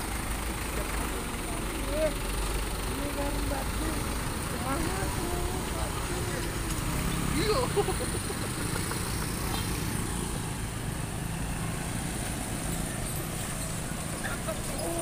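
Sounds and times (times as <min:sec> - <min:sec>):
motor scooters passing: 0:00.0 - 0:15.0
truck diesel engine rumbling: 0:00.0 - 0:15.0.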